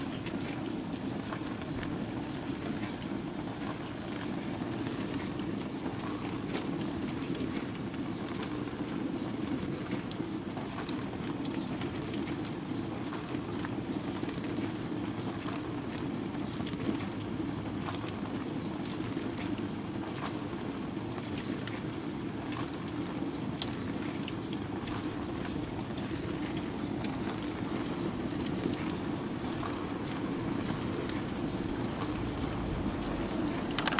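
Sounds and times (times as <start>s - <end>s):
small drips and ticks: 0.0s - 33.9s
water churning in washing machine: 0.0s - 33.9s.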